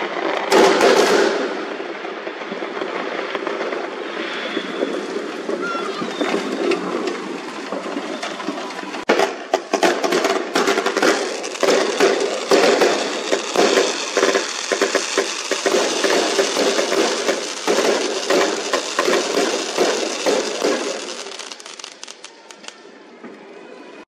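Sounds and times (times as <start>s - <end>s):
fireworks crackling and popping: 0.0s - 23.4s.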